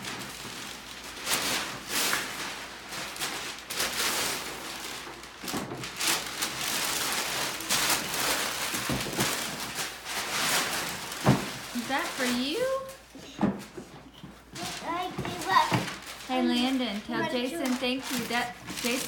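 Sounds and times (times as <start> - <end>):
packaging crackling and rustling: 0.0 - 19.0.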